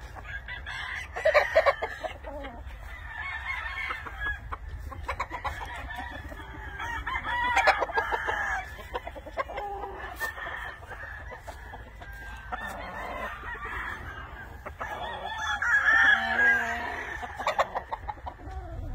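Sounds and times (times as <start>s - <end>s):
roosters clucking: 0.0s - 18.9s
roosters crowing: 0.0s - 18.9s.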